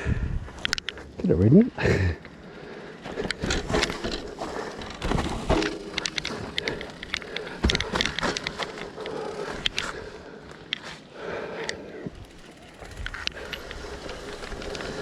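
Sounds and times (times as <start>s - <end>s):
mountain bike rattling over bumps: 0.5s - 15.0s.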